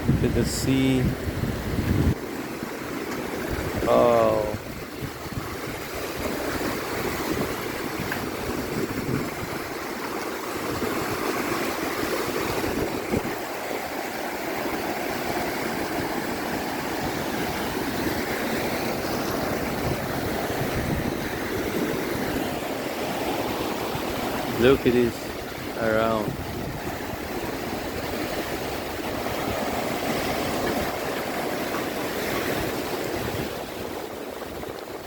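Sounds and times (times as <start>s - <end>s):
sea waves washing onto beach: 0.0s - 35.0s.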